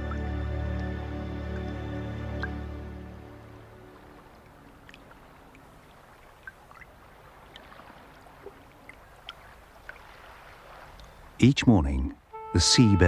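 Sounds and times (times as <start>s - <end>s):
low sea water wash: 0.0s - 13.0s.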